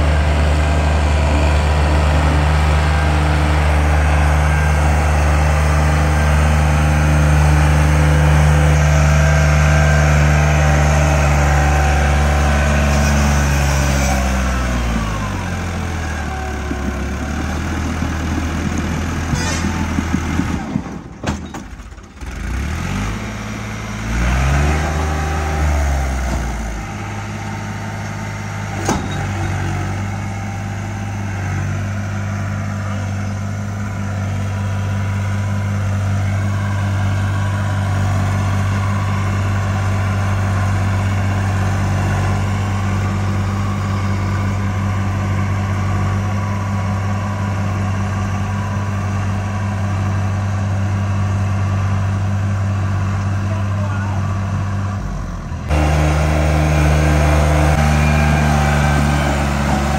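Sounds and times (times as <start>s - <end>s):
tractor diesel engine straining: 0.0s - 59.9s.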